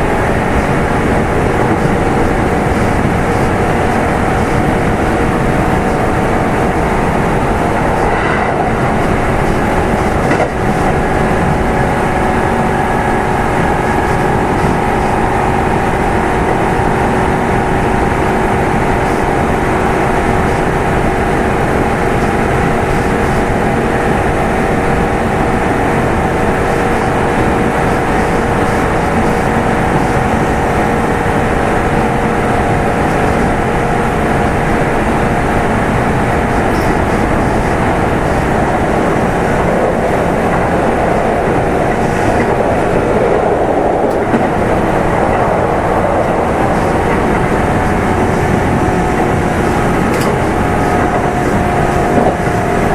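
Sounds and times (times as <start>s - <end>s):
electric train motor hum: 0.0s - 52.9s
wheels rumbling on rails: 0.0s - 52.9s.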